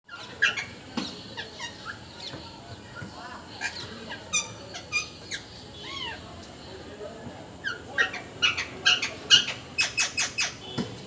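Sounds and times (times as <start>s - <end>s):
parrot chirping and chattering: 0.1s - 6.2s, 7.6s - 10.6s.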